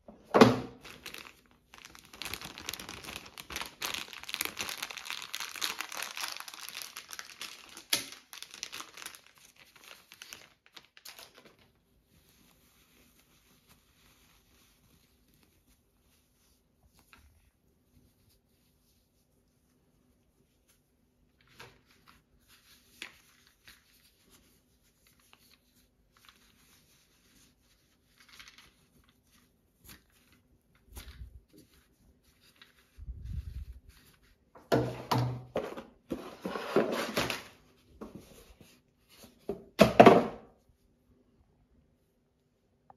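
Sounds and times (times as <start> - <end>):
packaging rustling and crinkling: 0.5 - 17.5, 21.3 - 39.8.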